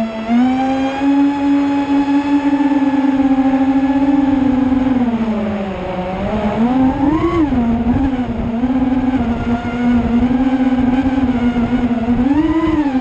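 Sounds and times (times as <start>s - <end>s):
drone motors whining: 0.0s - 13.0s
wind buffeting microphone: 0.0s - 13.0s.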